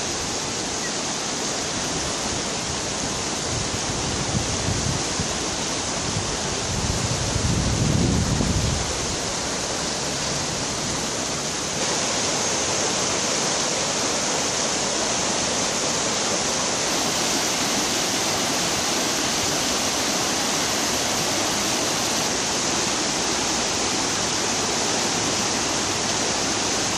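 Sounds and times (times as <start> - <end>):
river rushing over shallows: 0.0 - 26.9.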